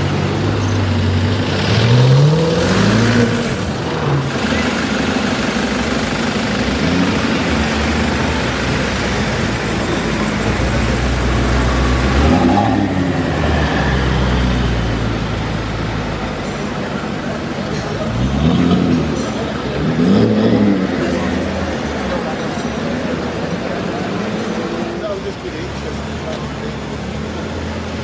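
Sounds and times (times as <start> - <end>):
car engine accelerating: 0.0 - 28.0
passing vehicle engine: 0.0 - 28.0.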